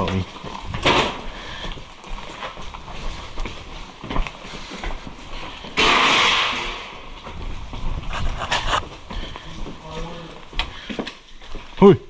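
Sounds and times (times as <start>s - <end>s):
footsteps: 0.0s - 12.0s.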